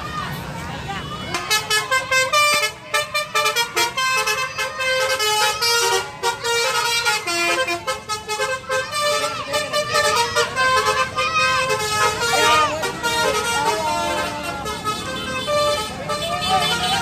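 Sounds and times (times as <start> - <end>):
bus horn playing a tune: 1.2 - 17.0.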